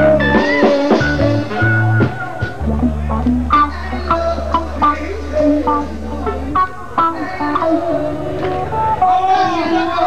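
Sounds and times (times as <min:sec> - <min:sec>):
electric guitar picking: 0:00.0 - 0:10.0.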